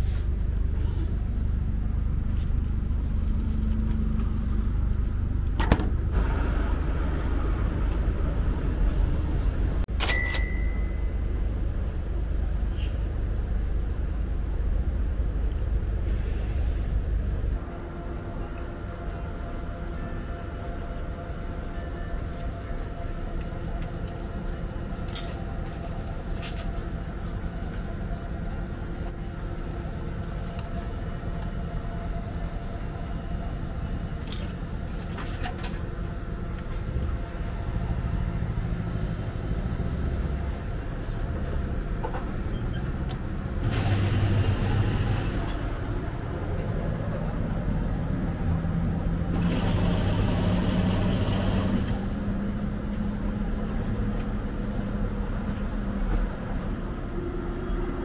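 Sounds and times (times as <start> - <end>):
low motor rumble: 0.0 - 58.0.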